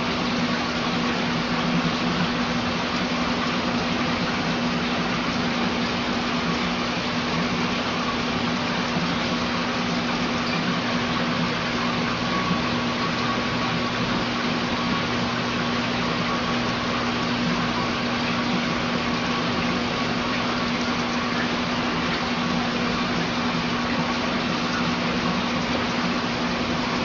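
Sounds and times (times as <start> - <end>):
machine humming and hissing: 0.0 - 27.0.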